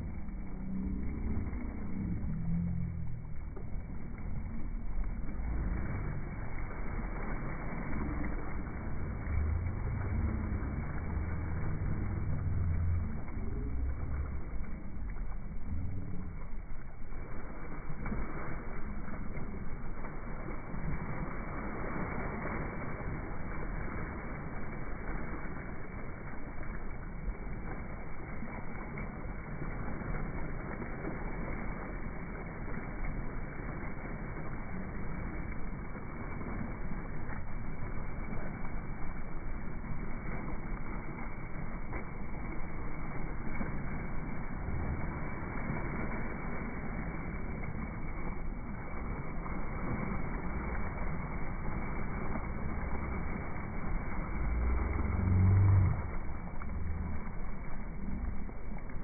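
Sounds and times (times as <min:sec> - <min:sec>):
low steady rumble: 0:00.0 - 0:59.0
water splashing against boat: 0:00.0 - 0:59.0.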